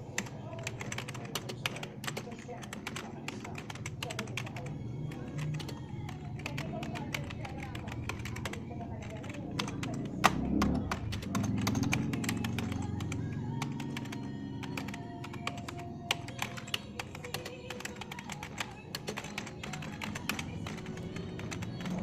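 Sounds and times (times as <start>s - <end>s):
keyboard typing: 0.0s - 22.0s
music: 0.0s - 22.0s.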